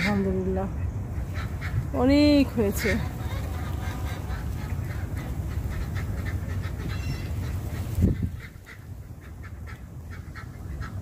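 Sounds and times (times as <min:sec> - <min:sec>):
poultry calling: 0:01.2 - 0:11.0.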